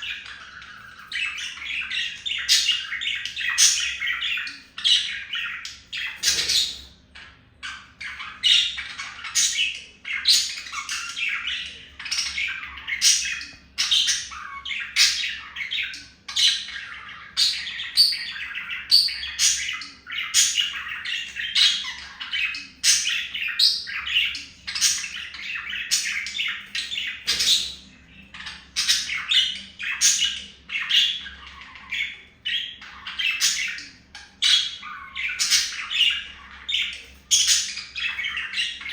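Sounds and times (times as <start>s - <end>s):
budgies chattering: 0.0s - 38.9s.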